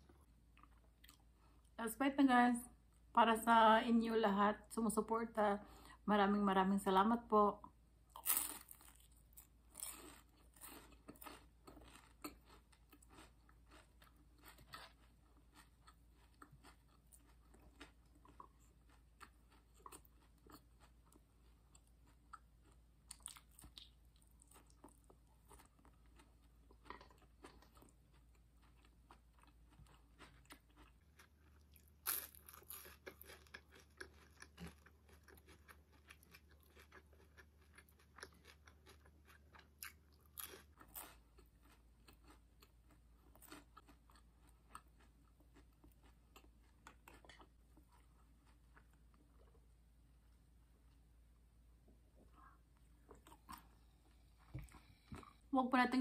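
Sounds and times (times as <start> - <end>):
crunching and chewing spring roll: 8.1 - 51.1, 52.4 - 55.5.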